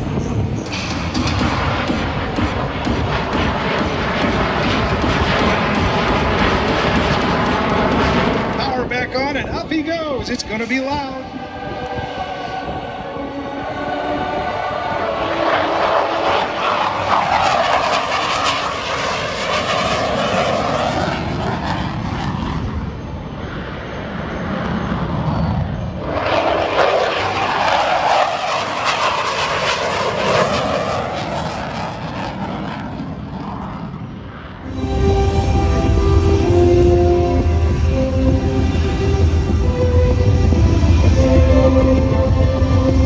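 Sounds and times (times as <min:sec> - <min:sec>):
helicopter turbine and rotor noise: 0:00.0 - 0:43.0.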